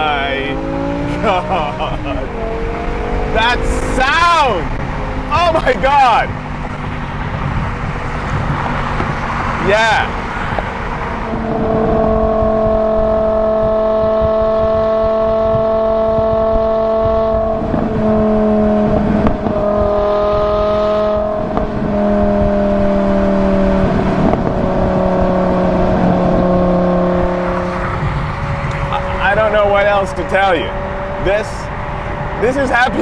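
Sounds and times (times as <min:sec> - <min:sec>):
car engine at steady revs: 0:00.0 - 0:33.0.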